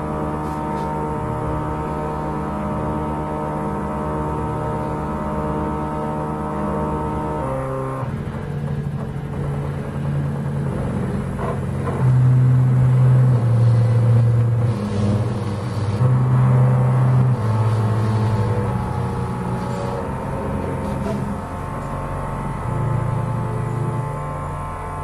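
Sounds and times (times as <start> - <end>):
stepper motors humming: 0.0 - 25.0.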